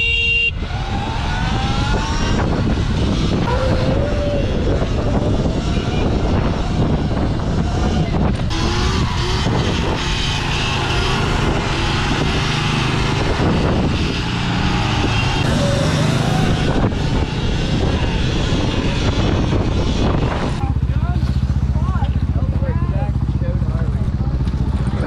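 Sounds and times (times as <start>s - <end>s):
wind rushing on microphone: 0.0s - 22.4s
motorbike engines whining: 0.0s - 25.0s.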